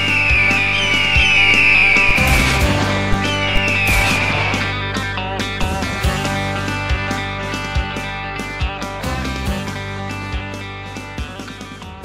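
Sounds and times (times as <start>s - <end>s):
guitar music: 0.0s - 12.0s.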